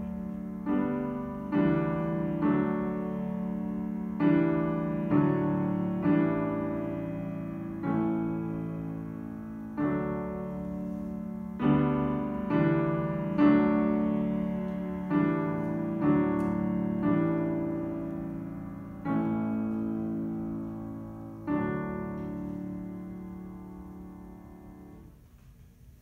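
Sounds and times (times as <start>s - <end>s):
grand piano chords: 0.0s - 26.0s.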